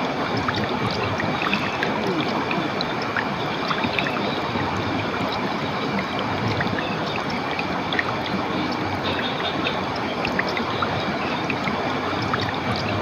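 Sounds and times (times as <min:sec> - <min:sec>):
water rushing in a stream: 0:00.0 - 0:13.0.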